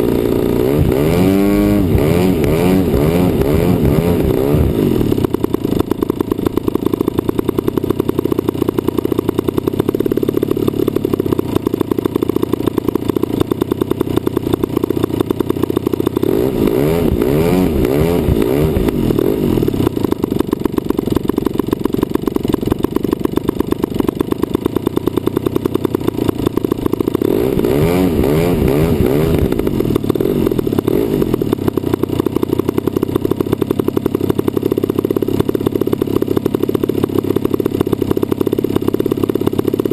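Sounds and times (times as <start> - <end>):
model airplane engine buzzing drone: 0.0 - 39.9.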